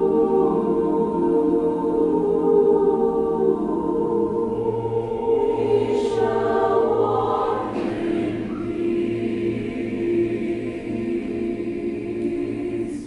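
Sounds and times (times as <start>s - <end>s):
mixed choir singing: 0.0s - 13.0s.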